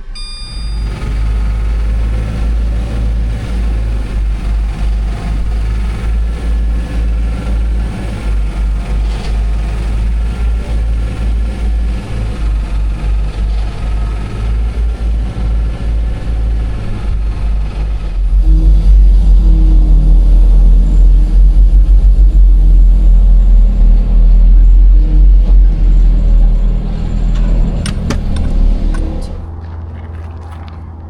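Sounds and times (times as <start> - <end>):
vehicle engine fluttering rumble: 0.0 - 31.0.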